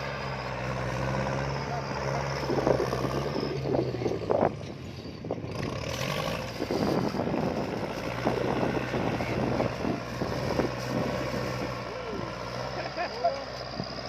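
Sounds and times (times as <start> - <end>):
knocks and clatter pushing dirt: 0.0 - 14.0
tractor diesel engine running: 0.0 - 14.0.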